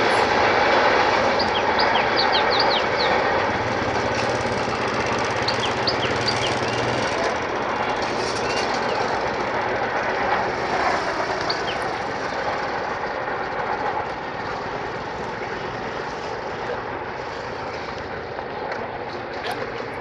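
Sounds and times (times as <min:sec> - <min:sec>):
diesel train rumbling: 0:00.0 - 0:20.0.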